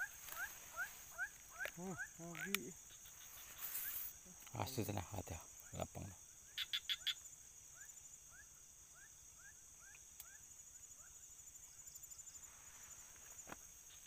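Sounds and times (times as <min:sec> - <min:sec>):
high-pitched cricket trill: 0:00.0 - 0:14.0
sharp insect chirps: 0:00.0 - 0:14.0
short rising insect calls: 0:00.0 - 0:14.0.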